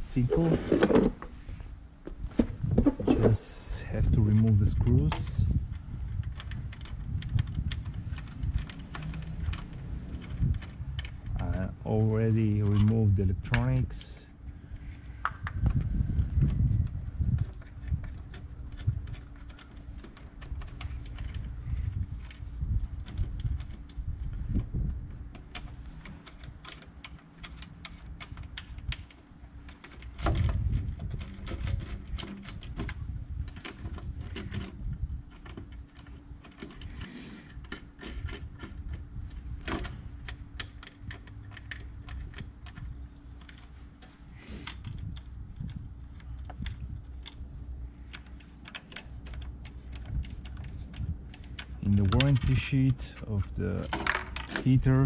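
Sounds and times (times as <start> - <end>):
steady low hum: 0.0 - 55.0
tools and parts clicking and rattling: 2.1 - 55.0.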